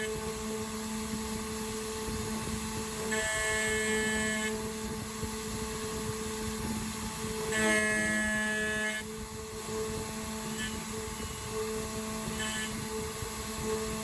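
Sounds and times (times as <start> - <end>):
high ringing cutter whine: 0.0 - 14.0
router spindle running: 0.0 - 14.0.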